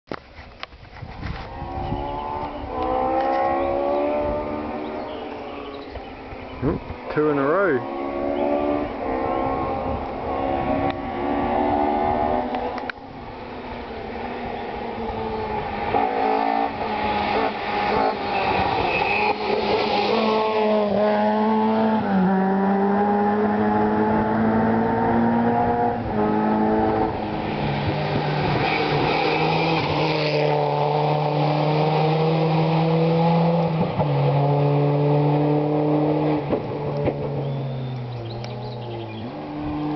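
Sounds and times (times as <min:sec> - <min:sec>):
rally car engines at full throttle: 0:01.3 - 0:39.9.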